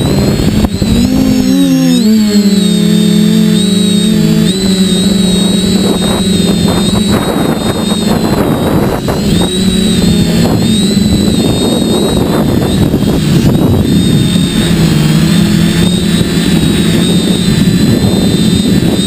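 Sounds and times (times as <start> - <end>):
drone motors whining: 0.0 - 19.0
wind rushing over microphone: 0.0 - 19.0.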